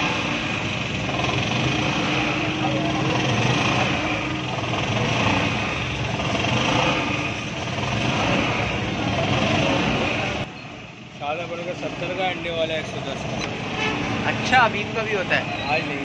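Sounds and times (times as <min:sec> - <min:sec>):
engine drone: 0:00.0 - 0:16.0
voices: 0:00.2 - 0:16.0.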